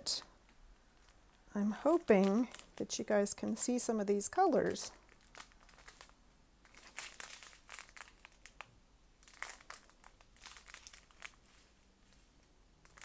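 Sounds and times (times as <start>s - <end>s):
plastic bags crinkling: 0.8s - 3.5s, 4.6s - 13.0s.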